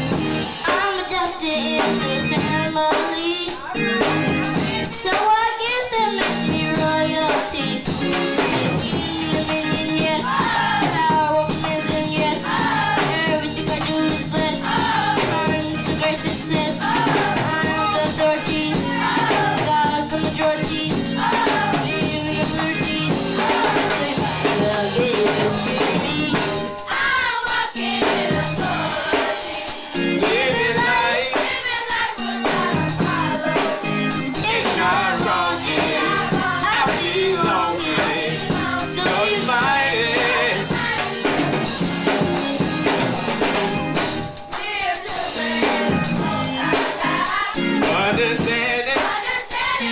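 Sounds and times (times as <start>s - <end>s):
child soloist singing: 0.0s - 7.9s, 8.8s - 43.0s
drums: 0.0s - 49.9s
youth choir singing gospel: 0.0s - 49.9s.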